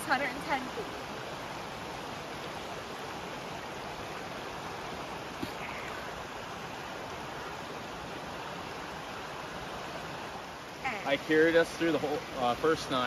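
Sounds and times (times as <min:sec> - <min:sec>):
creek running over rocks: 0:00.0 - 0:13.0.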